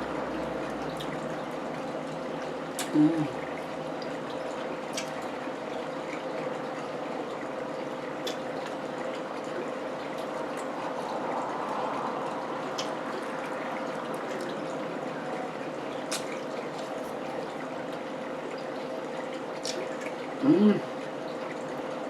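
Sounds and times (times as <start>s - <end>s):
faint constant hum: 0.0s - 22.0s.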